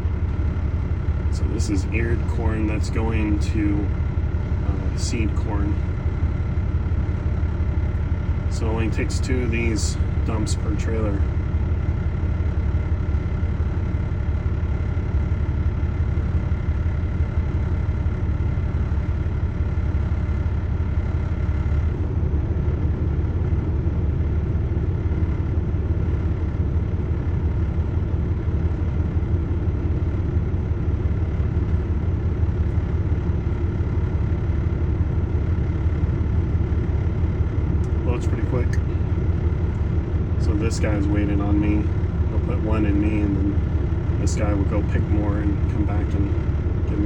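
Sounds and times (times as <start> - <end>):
heavy engine running: 0.0 - 47.0.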